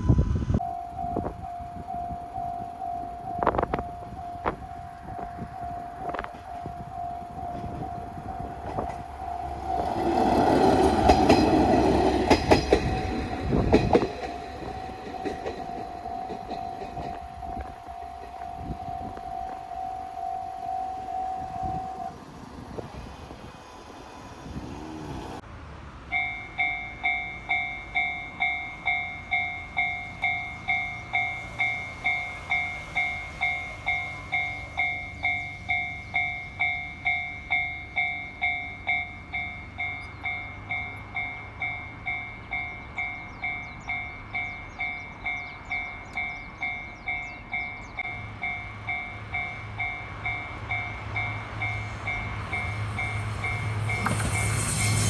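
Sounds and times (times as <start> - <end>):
level-crossing warning bell: 0.0 - 23.4, 26.1 - 55.0
low rumble of approaching train: 0.0 - 55.0.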